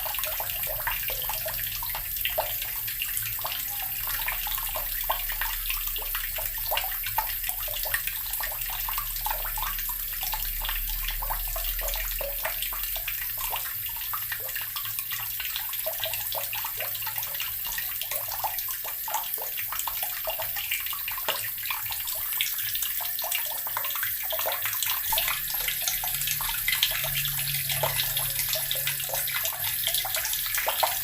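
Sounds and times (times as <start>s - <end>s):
tap water splashing into basin: 0.0s - 31.0s.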